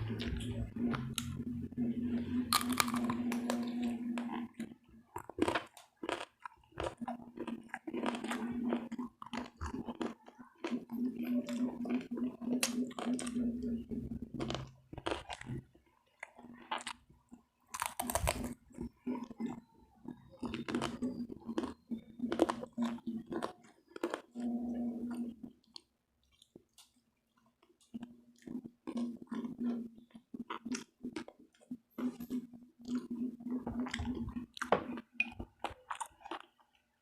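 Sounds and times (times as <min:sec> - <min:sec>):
crunchy chewing: 0:02.1 - 0:37.0.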